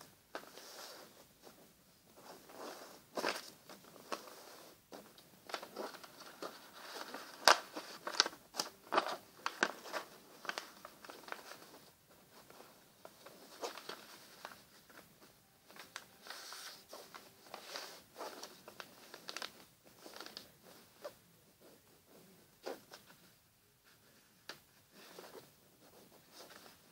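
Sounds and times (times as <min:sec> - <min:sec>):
paper folding and crinkling: 0:00.3 - 0:26.9.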